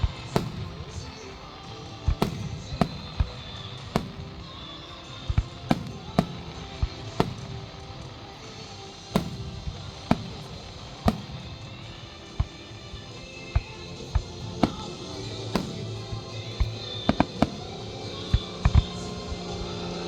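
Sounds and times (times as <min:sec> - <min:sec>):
fireworks banging: 0:00.0 - 0:19.5
show music: 0:00.3 - 0:19.3.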